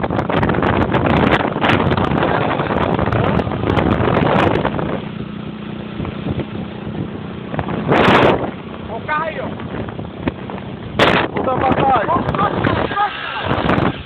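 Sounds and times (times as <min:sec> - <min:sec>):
vehicle engine humming: 0:00.0 - 0:14.0
wind buffeting microphone: 0:00.0 - 0:14.0.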